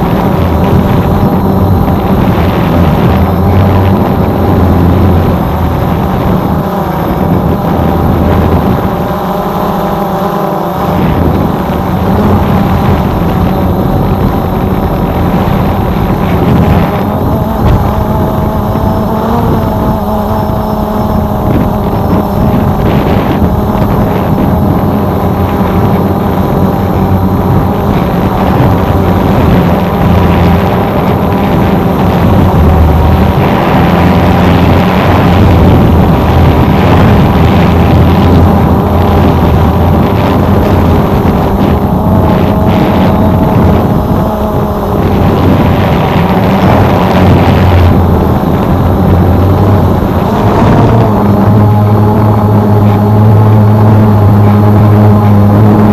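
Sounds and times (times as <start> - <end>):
drone propellers whining: 0.0 - 55.9
heavy low rumble: 0.0 - 55.9.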